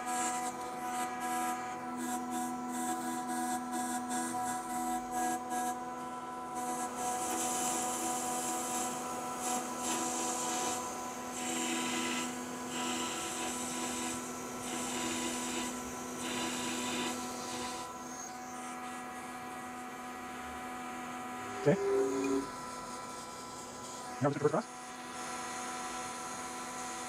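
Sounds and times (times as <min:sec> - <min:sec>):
lathe motor and gear hum: 0:00.0 - 0:27.0.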